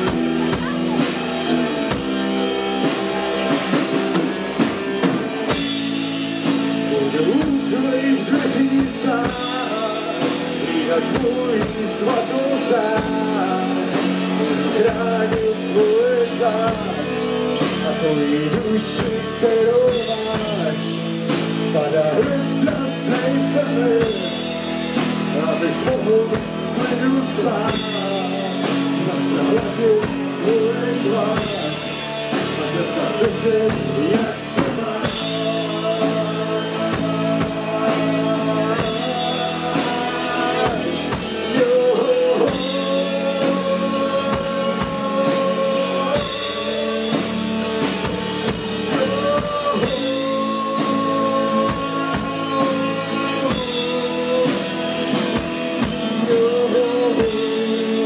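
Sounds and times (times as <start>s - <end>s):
lead guitar bending notes: 0.0s - 58.0s
rock band playing: 0.0s - 58.0s.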